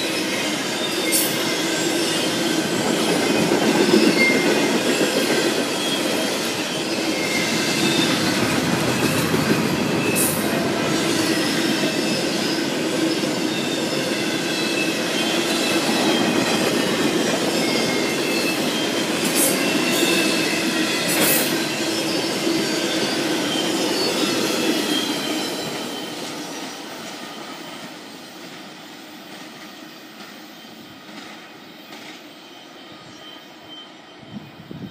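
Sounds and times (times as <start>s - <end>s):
high squealing of wheels: 0.0s - 34.9s
train wheels rumbling on track: 0.0s - 34.9s.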